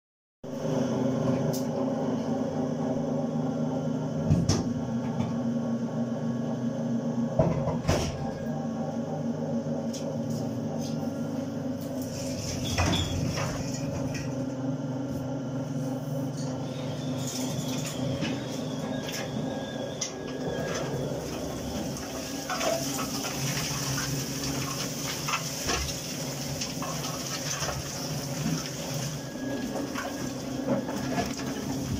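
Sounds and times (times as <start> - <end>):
machine mechanical hum: 0.5 - 31.9.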